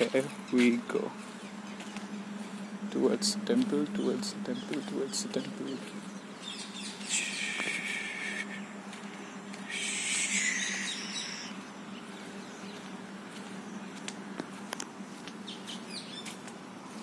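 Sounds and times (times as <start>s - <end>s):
birds chirping and calling: 0.0s - 17.0s
faint low hum: 0.0s - 17.0s.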